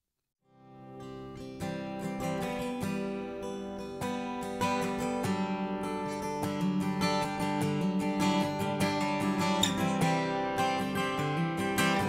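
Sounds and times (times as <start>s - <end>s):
acoustic guitar strumming: 0.5s - 12.0s.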